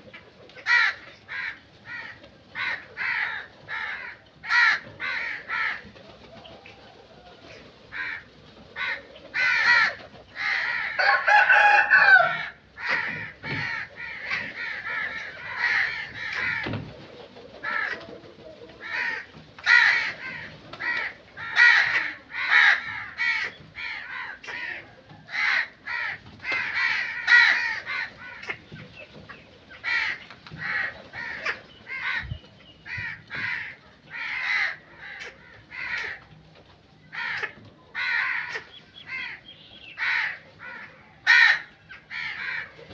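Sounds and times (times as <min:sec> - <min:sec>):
crows cawing: 0:00.6 - 0:06.0, 0:07.9 - 0:16.9, 0:17.6 - 0:18.1, 0:18.8 - 0:28.8, 0:29.7 - 0:36.2, 0:37.1 - 0:42.9.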